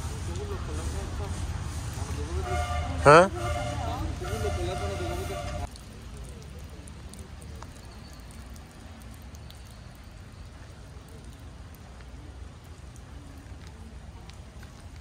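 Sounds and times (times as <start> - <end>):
light rain falling: 0.0 - 15.0
raindrops ticking: 0.0 - 15.0.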